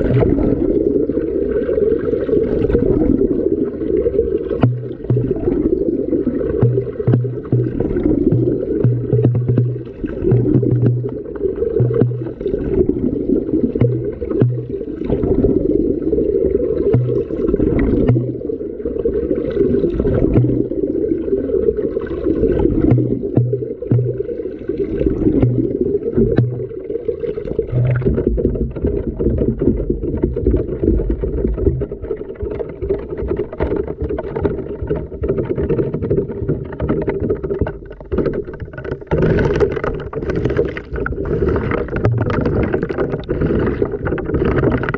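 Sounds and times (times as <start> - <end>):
water sloshing and gurgling: 0.0 - 44.9.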